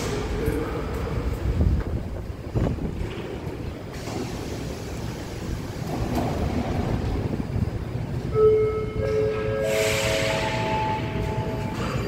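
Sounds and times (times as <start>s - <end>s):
metro train wheels rumbling: 0.0s - 12.0s.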